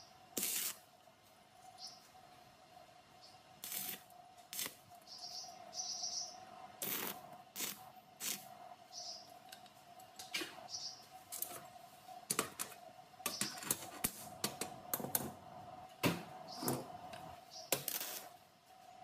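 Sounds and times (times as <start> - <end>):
steady faint hum: 0.0 - 19.0.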